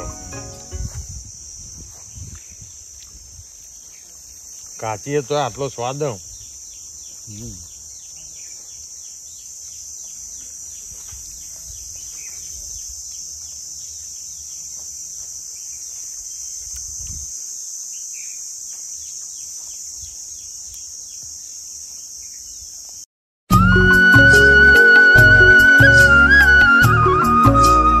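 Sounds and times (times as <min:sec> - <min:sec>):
insects droning: 0:00.0 - 0:23.1.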